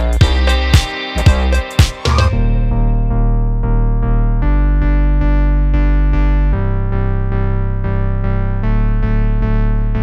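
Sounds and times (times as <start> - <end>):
pulsing synthesizer chords: 0.0 - 10.0.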